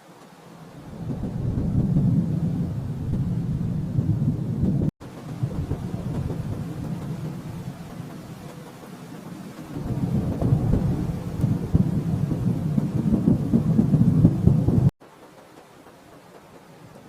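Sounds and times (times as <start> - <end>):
distant thunder rumbling: 0.6 - 14.9.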